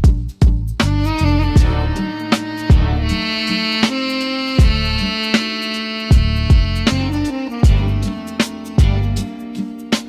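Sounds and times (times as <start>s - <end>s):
dark jazz melodic notes: 0.8s - 9.8s.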